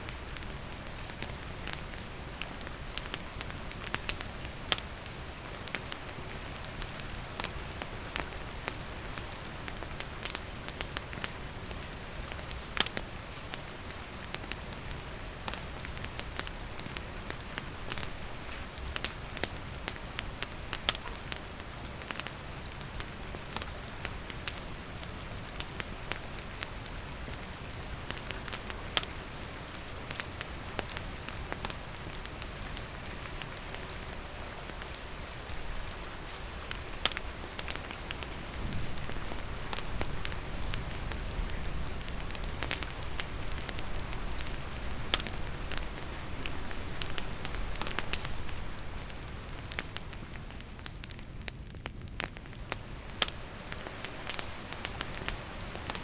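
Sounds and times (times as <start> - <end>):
campfire crackling and popping: 0.0 - 56.0
rain falling: 0.0 - 56.0.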